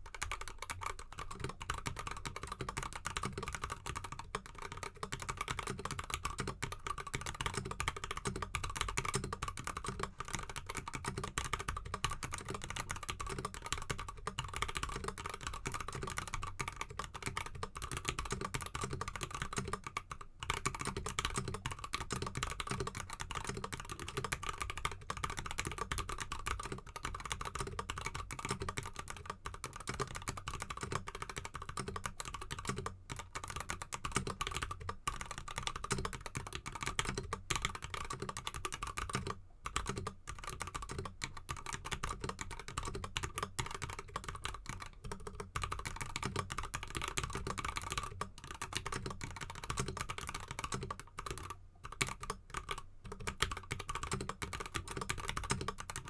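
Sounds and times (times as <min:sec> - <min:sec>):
typing on mechanical keyboard: 0:00.0 - 0:56.0.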